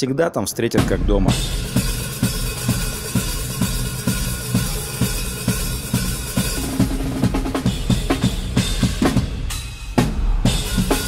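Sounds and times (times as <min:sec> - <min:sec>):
cymbal wash: 0:01.4 - 0:11.0.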